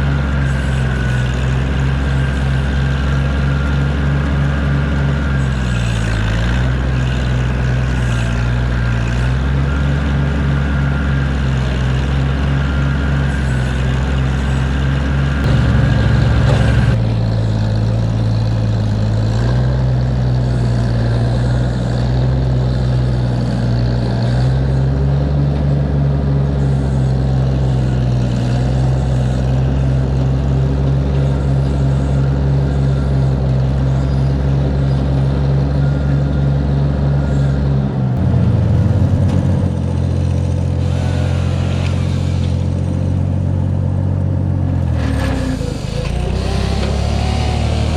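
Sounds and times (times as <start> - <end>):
loader engine running: 0.0 - 47.9.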